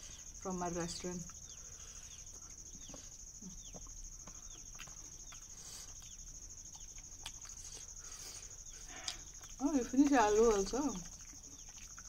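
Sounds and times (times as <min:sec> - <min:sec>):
bird chirping: 0:00.0 - 0:12.0
high-pitched insect trill: 0:00.0 - 0:12.0.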